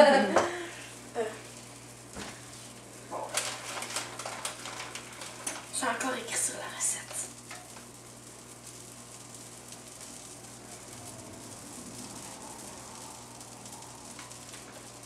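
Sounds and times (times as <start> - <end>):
faint sizzling in a pan: 0.0 - 15.0
low steady hum: 0.0 - 15.0.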